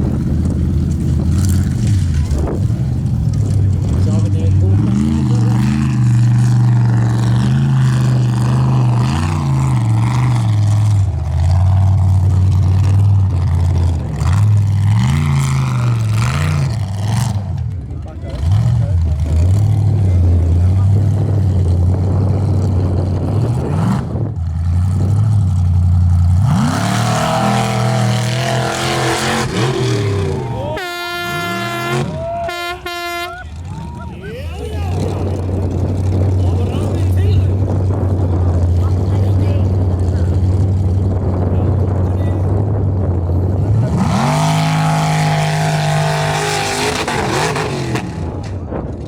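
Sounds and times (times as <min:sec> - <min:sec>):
racing truck engine revving: 0:00.0 - 0:49.0.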